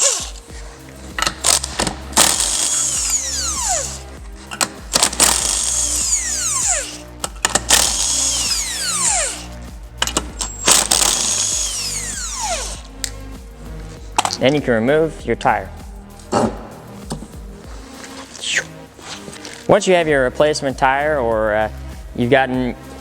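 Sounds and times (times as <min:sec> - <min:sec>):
steady music beat: 0:00.0 - 0:23.0.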